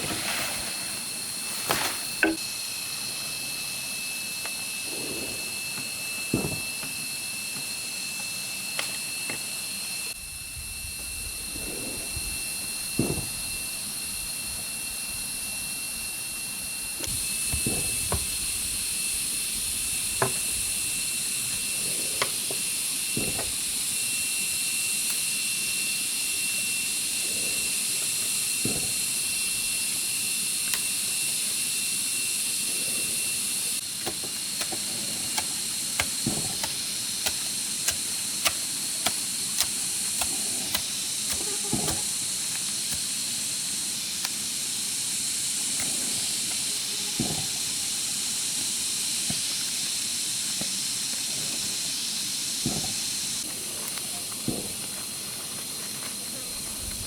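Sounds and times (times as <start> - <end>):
high-pitched insect chorus: 0.0 - 57.0
low steady whine: 0.0 - 57.0.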